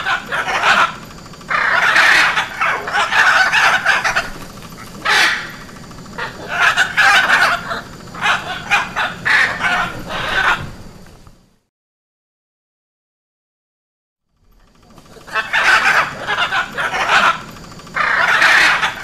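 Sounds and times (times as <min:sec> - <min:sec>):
macaws squawking: 0:00.0 - 0:11.0, 0:14.7 - 0:19.0.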